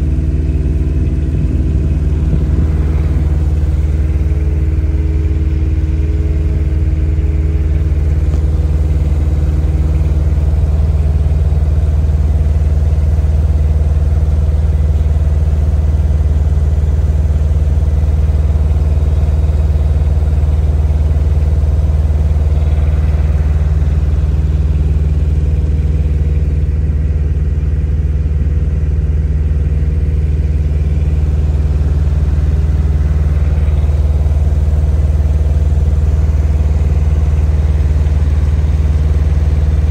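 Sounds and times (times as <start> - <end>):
ferry engine droning: 0.0 - 39.9.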